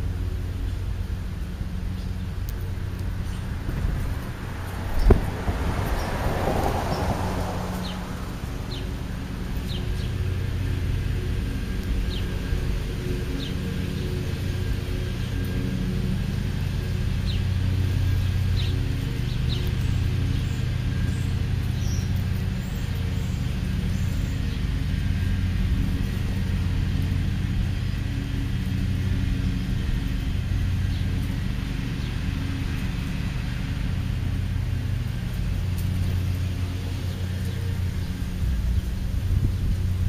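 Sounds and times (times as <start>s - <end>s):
birds chirping: 0.0s - 40.0s
hum: 0.0s - 40.0s
steady low rumble: 0.0s - 40.0s.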